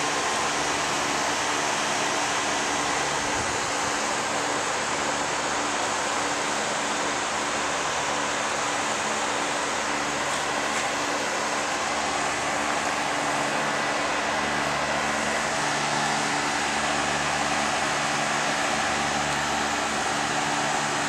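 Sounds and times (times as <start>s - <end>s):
compressor low hum: 0.0s - 21.0s
heat pump fan rush: 0.0s - 21.0s.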